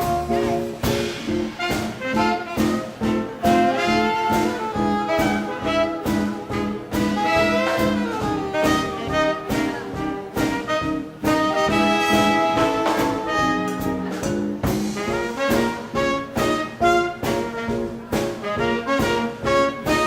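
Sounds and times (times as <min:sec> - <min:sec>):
steady drum beat: 0:00.0 - 0:20.0
swing band horns: 0:00.0 - 0:20.0.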